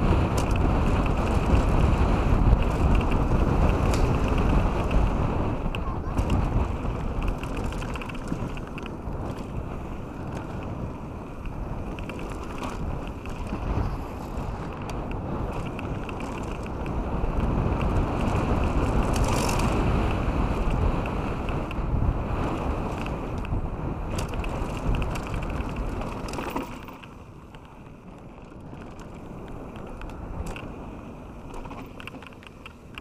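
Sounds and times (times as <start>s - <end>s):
bike clicks and rattles: 0.0s - 33.0s
tyres rolling over gravel: 0.0s - 33.0s
wind buffeting microphone: 0.0s - 33.0s.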